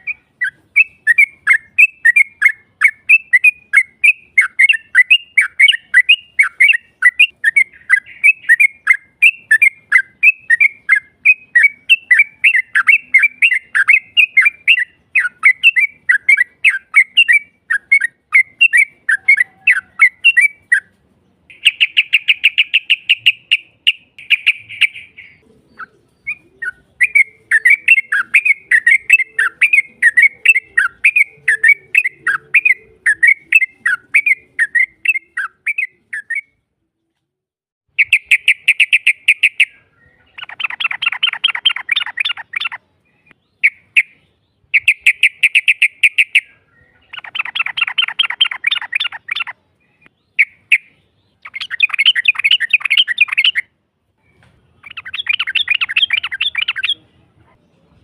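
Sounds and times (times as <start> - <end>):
bird trill: 0.0 - 36.7, 37.9 - 57.1
bird chirping: 0.0 - 58.0.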